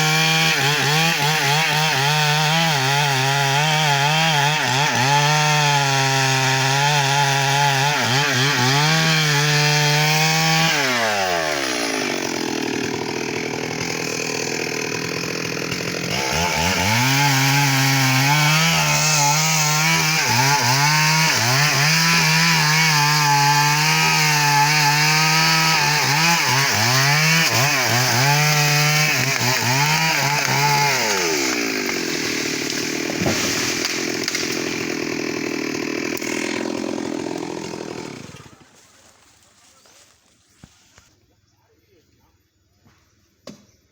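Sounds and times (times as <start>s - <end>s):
chainsaw cutting wood: 0.0s - 39.8s.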